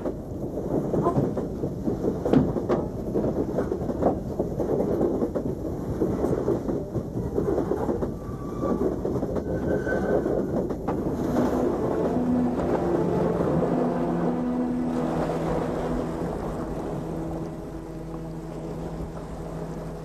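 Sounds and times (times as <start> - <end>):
train rumble and clatter: 0.0 - 20.0.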